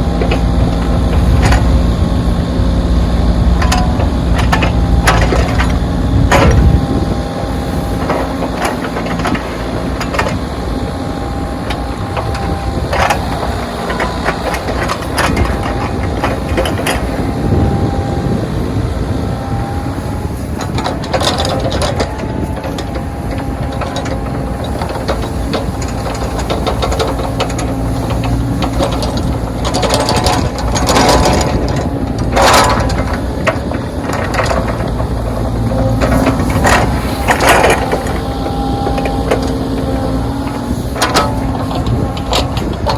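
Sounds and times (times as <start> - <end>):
clanks and knocks: 0.0 - 2.2, 3.1 - 18.3, 20.4 - 42.9
backhoe engine running: 0.0 - 42.9
high whine: 0.0 - 42.9.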